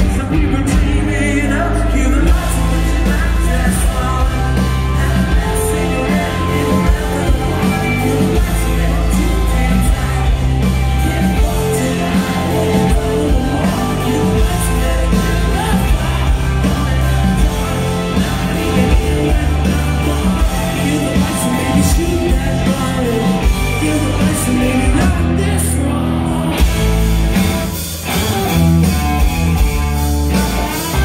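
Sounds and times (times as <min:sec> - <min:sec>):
person singing: 0:00.0 - 0:26.9
live rock band playing: 0:00.0 - 0:31.0.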